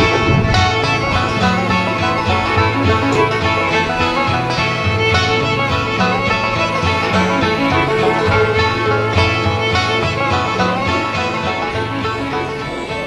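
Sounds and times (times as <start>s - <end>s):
bluegrass music: 0.0s - 13.0s.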